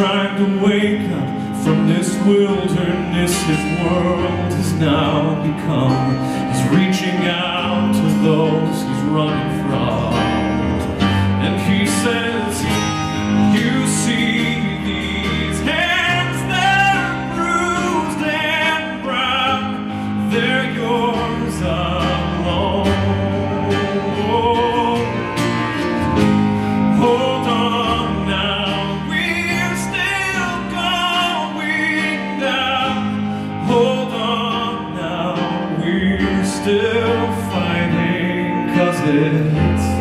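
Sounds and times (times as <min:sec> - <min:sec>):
band accompaniment: 0:00.0 - 0:40.0
grand piano: 0:00.0 - 0:40.0
man singing with vibrato: 0:00.0 - 0:40.0.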